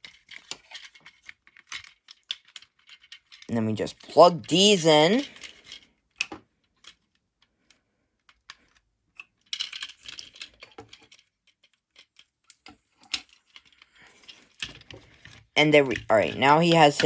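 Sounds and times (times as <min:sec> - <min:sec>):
plastic parts clicking and clattering: 0:00.0 - 0:04.2, 0:05.1 - 0:17.0.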